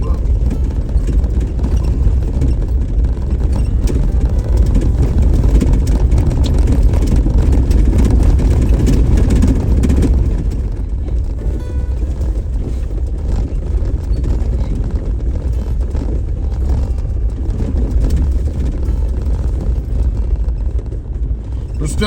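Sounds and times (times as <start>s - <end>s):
clicks and rattles: 0.0s - 21.8s
vehicle engine and tyre rumble: 0.0s - 22.0s.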